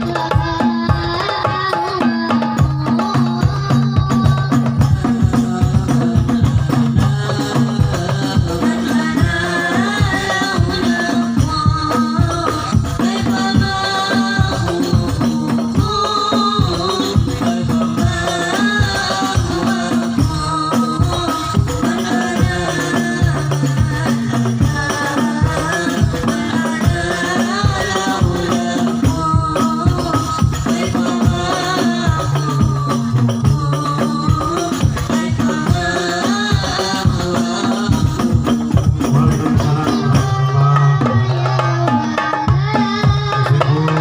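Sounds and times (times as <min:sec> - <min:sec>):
frame drums with jingles: 0:00.0 - 0:44.0.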